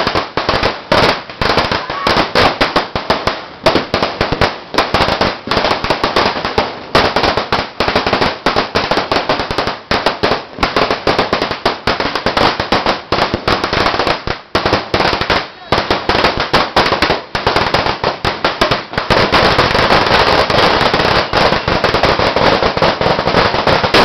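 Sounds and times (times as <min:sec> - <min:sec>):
firecrackers crackling: 0:00.0 - 0:24.0.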